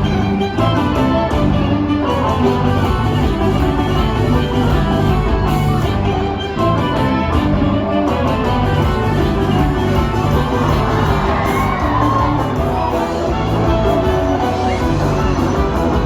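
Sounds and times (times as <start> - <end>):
instrumental music: 0.0 - 16.0.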